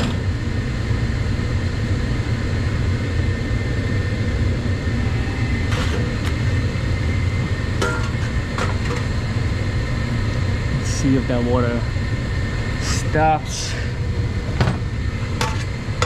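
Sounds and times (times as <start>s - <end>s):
hvac machinery hum: 0.0s - 16.0s.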